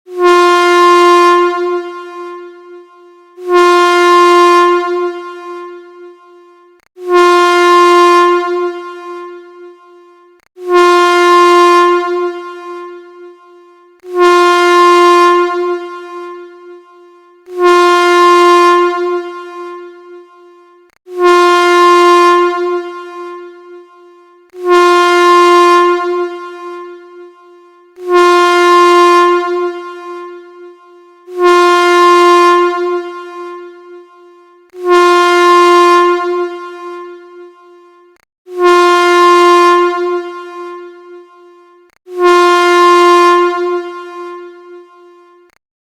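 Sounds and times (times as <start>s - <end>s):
air horn blasts: 0.1s - 45.6s.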